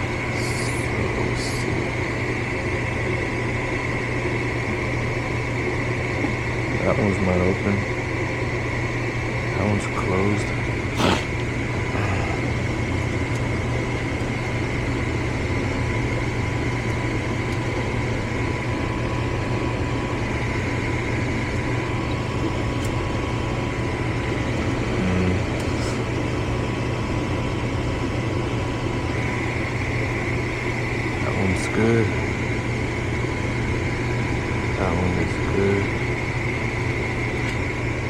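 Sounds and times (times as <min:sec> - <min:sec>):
furnace blower fan humming: 0:00.0 - 0:38.0.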